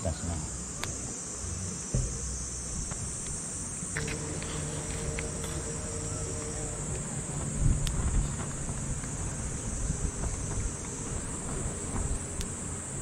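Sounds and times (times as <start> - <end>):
insects buzzing: 0.0 - 13.0
low steady hum: 0.0 - 13.0.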